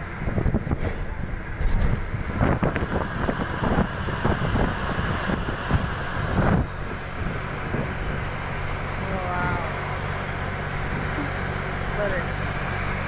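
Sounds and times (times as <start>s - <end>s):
vehicle road and engine noise: 0.0s - 13.0s
wind buffeting microphone: 0.0s - 13.0s.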